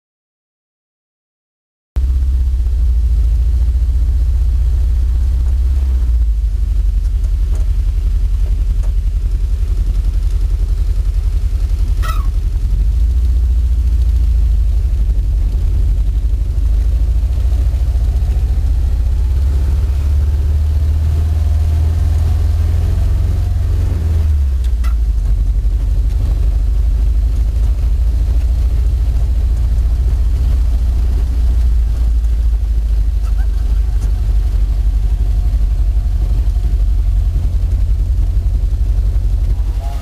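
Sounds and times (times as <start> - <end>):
truck engine running: 2.0 - 40.0.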